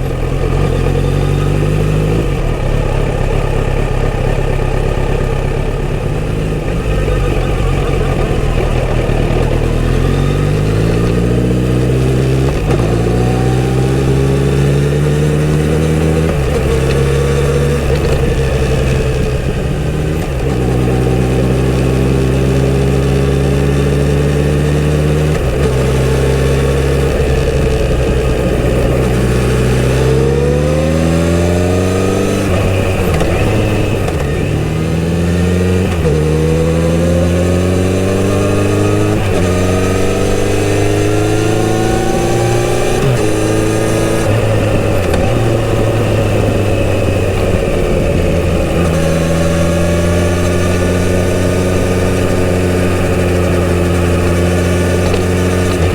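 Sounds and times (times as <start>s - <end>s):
motorcycle engine shifting gears: 0.0s - 55.9s.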